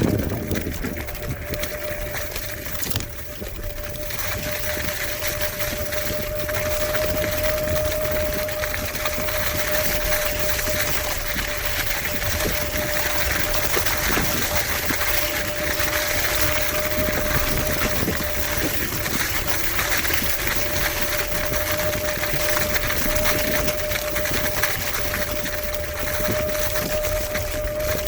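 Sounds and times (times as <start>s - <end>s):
electric motor whine: 0.0s - 28.0s
wind rush: 0.0s - 28.0s.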